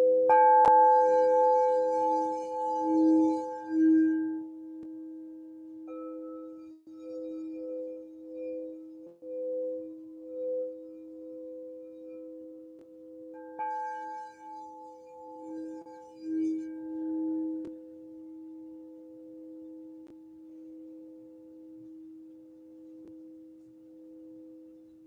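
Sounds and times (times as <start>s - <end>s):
crystal singing bowls ringing: 0.0s - 25.0s.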